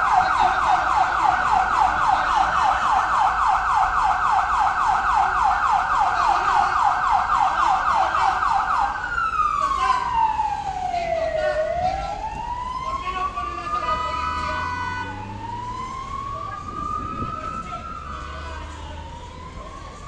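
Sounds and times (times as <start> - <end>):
ambulance siren: 0.0 - 20.0.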